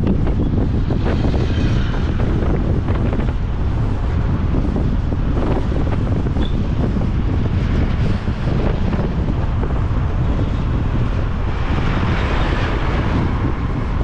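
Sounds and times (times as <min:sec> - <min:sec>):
motorbike noise: 0:00.0 - 0:14.0
wind buffeting microphone: 0:00.0 - 0:14.0.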